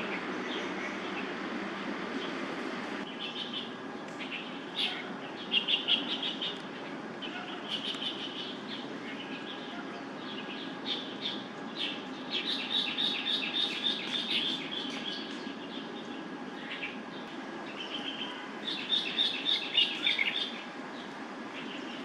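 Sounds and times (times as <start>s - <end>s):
low background hum: 0.0s - 22.0s
small birds chirping: 0.0s - 22.0s.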